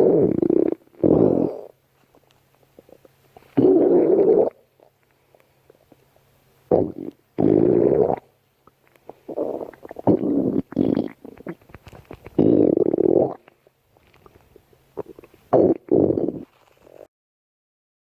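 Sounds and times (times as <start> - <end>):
stomach growling: 0.0 - 5.0, 6.7 - 17.1.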